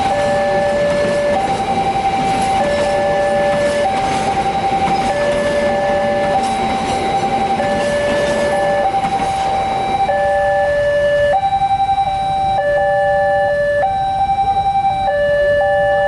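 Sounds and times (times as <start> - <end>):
level crossing alarm tones: 0.0 - 16.0
passing train: 0.0 - 16.0.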